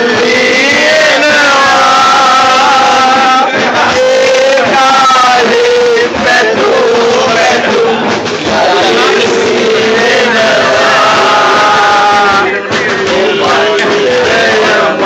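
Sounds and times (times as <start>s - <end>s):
loud music: 0.0s - 15.0s.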